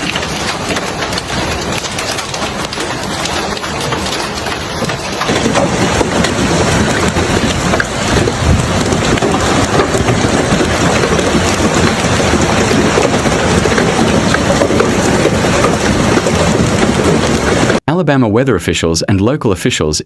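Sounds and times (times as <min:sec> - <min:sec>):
heavy rain pouring: 0:00.0 - 0:17.8.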